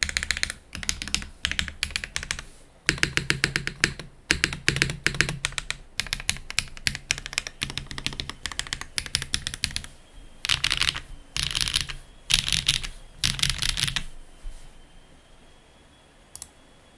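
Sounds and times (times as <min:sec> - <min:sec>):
mechanical keyboard typing: 0:00.0 - 0:14.1.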